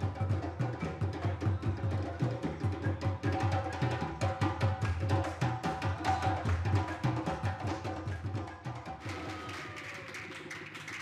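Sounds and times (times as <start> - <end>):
hand drums playing fast rhythm: 0.0 - 11.0.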